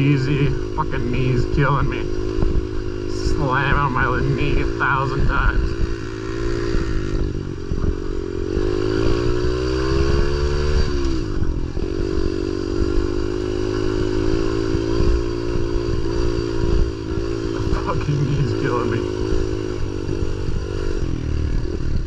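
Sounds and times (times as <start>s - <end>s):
constant low rumble: 0.0s - 22.0s
pit bike engine revving: 0.0s - 22.0s.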